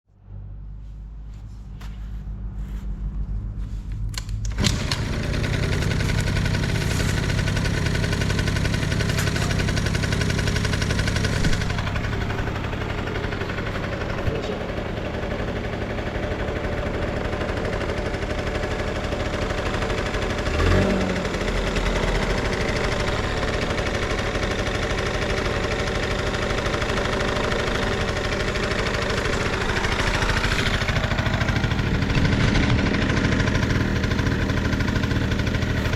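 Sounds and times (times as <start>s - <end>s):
engine starting and running: 0.2s - 35.9s.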